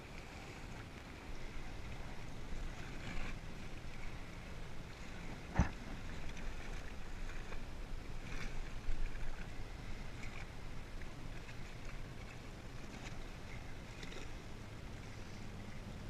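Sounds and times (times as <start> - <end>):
water splashing around kayak: 0.0 - 16.0.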